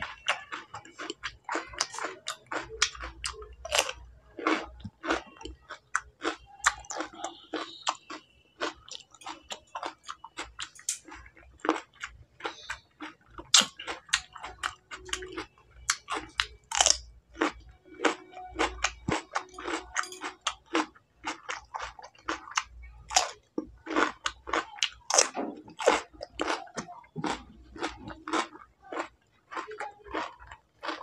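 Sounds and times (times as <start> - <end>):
person chewing cucumber: 0.0 - 31.0.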